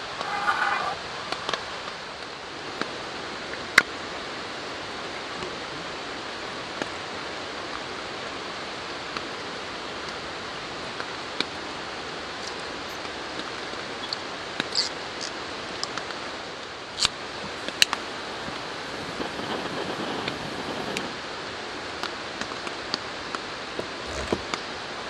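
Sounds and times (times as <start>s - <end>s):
light drizzling rain: 0.0s - 25.0s.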